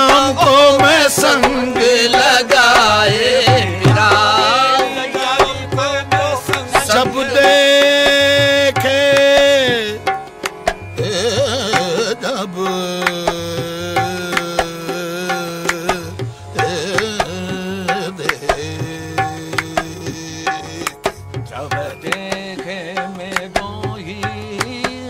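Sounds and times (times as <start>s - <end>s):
tabla playing: 0.0s - 25.0s.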